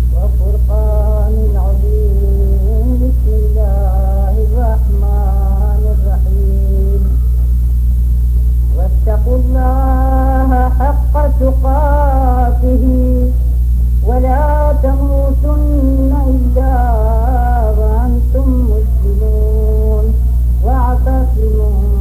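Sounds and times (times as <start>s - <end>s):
person chanting: 0.0s - 7.4s, 8.7s - 13.4s, 14.0s - 22.0s
steady low hum: 0.0s - 22.0s.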